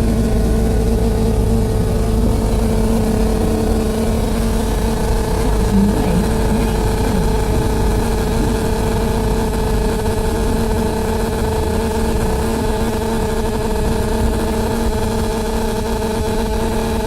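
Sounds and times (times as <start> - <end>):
droning hum of held tones: 0.0 - 17.0
low rumble of bus: 0.0 - 17.0.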